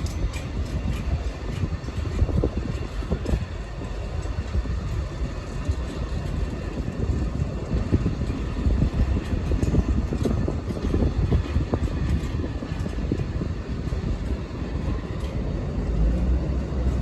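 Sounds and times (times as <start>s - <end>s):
train passing rumble: 0.0s - 17.0s.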